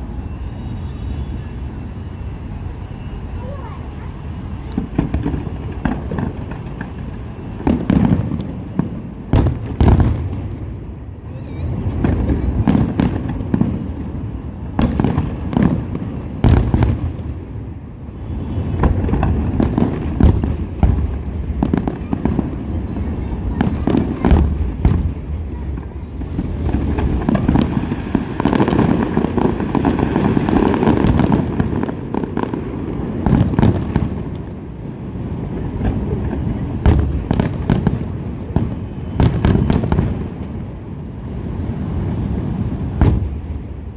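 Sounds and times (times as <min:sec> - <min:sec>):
continuous rumble: 0:00.0 - 0:43.9.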